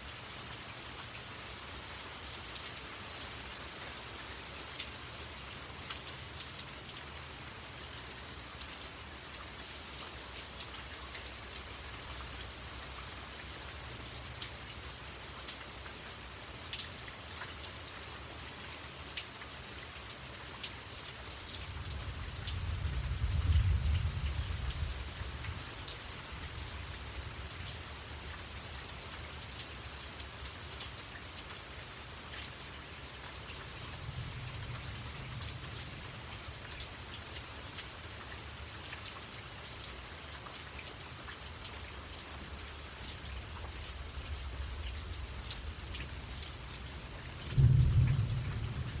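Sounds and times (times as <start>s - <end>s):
rain on leaves and water: 0.0s - 49.0s.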